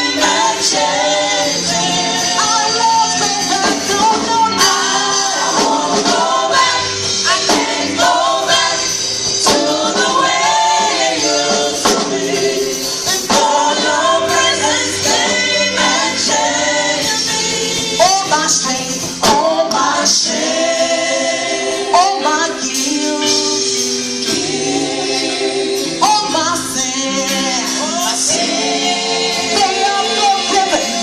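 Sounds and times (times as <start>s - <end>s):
choir singing gospel: 0.0s - 31.0s
instrumental backing: 0.0s - 31.0s
steady percussion beat: 0.0s - 31.0s.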